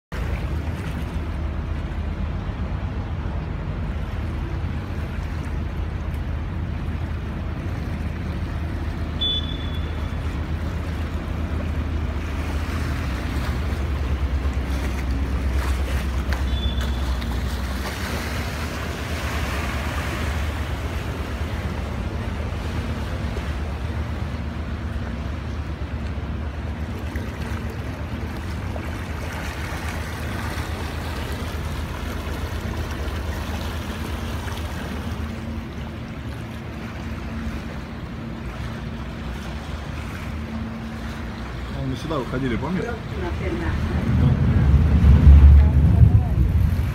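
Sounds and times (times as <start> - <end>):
boat engine rumbling: 0.1 - 46.9
water splashing past hull: 0.1 - 46.9.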